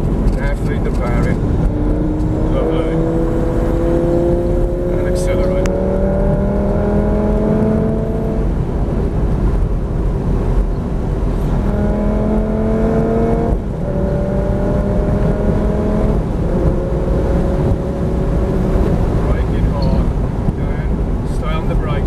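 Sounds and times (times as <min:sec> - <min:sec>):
car engine at full throttle: 0:00.0 - 0:22.0
wind and road noise: 0:00.0 - 0:22.0.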